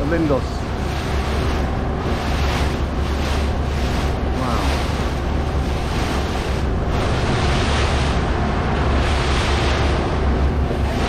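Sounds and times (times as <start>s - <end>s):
boat engine drone: 0.0s - 11.0s
water rushing past hull: 0.0s - 11.0s
wind buffeting microphone: 0.0s - 11.0s.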